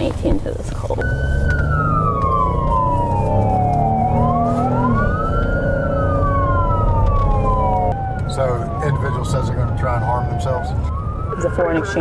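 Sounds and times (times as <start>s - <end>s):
car engine and road rumble: 0.0s - 12.0s
police siren wailing: 0.7s - 12.0s.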